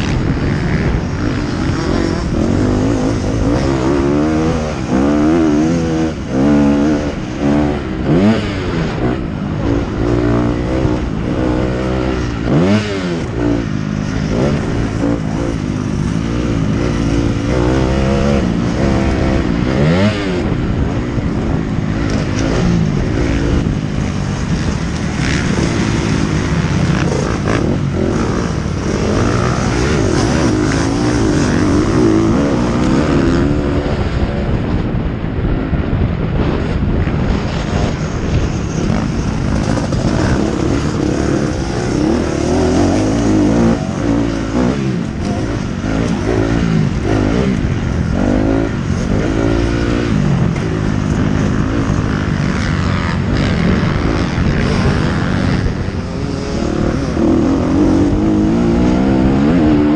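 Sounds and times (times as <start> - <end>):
motocross bike engine revving: 0.0 - 34.9, 36.4 - 59.9.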